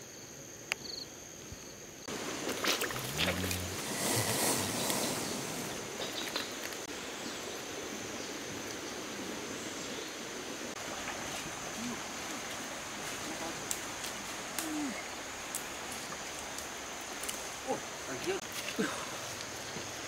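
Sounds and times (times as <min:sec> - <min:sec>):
river flowing: 0:02.1 - 0:20.0.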